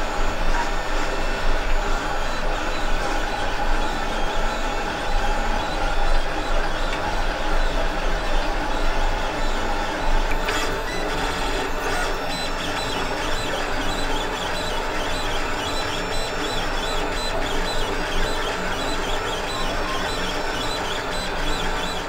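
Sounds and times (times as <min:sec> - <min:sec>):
stepper motors whirring and whining: 0:00.0 - 0:22.0.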